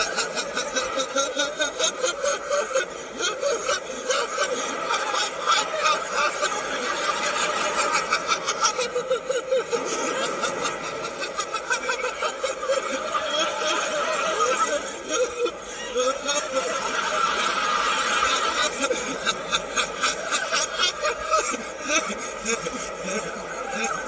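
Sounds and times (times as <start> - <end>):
man laughing backwards: 0.0 - 24.0.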